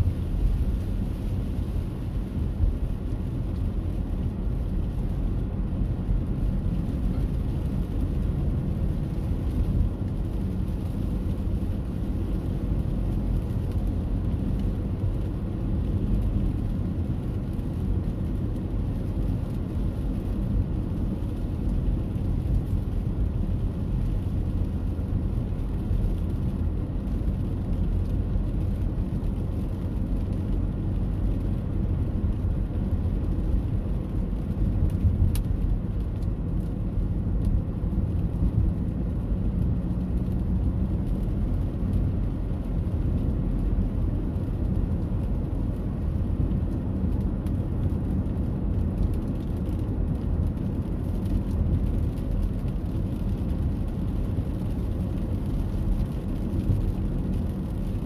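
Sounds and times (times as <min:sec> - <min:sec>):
low rumbling noise: 0:00.0 - 0:58.0.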